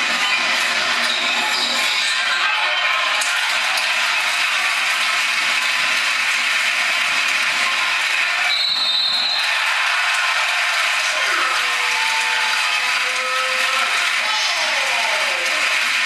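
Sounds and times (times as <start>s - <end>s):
crowd din in a hall: 0.0s - 16.0s.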